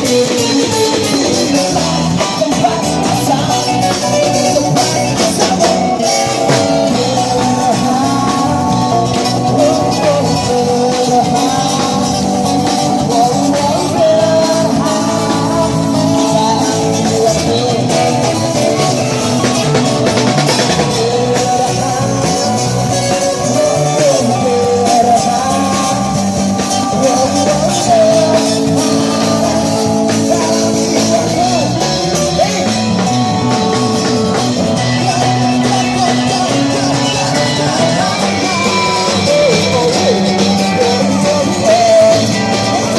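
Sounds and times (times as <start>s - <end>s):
guitar playing: 0.0s - 42.9s
person singing: 0.0s - 42.9s.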